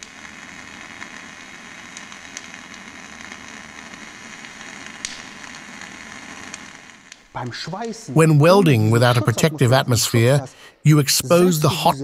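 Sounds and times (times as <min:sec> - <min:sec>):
welding arc sizzling: 0:00.0 - 0:12.0.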